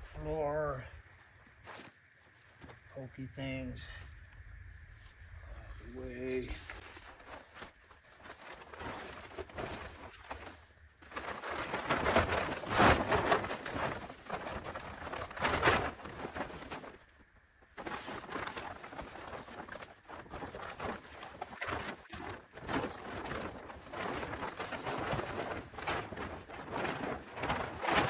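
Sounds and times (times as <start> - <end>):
tarp fabric rustling: 5.0 - 28.0.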